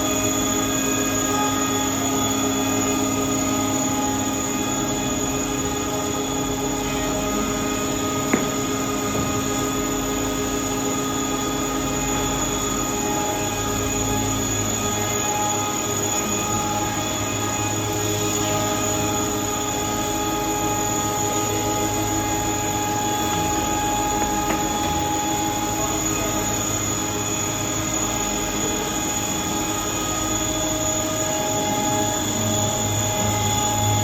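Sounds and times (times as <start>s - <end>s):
planer machine whining: 0.0s - 34.0s.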